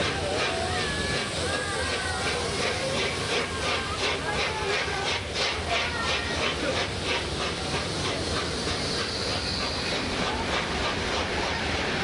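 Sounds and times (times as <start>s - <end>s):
coaches rumbling on rails: 0.0s - 12.0s
steam locomotive chuffing: 0.0s - 12.0s.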